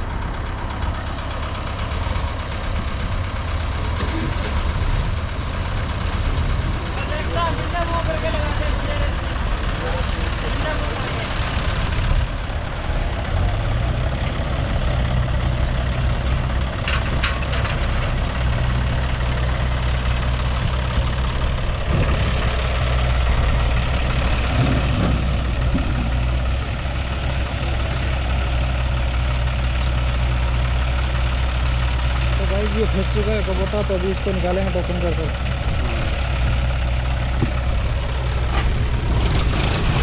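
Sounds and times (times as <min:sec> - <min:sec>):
diesel tractor engines idling: 0:00.0 - 0:40.0.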